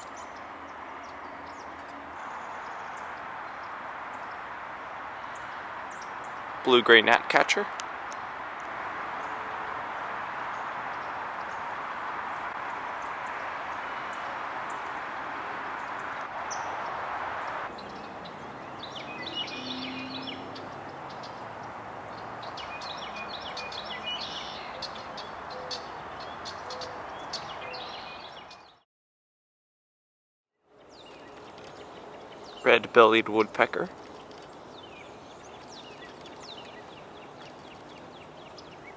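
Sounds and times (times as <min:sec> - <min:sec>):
small birds chirping: 0:00.0 - 0:28.8, 0:30.7 - 0:38.9.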